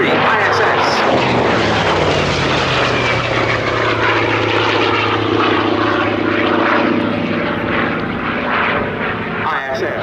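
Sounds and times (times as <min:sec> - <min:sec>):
aircraft engine drone: 0:00.0 - 0:10.0
propeller noise: 0:00.0 - 0:10.0.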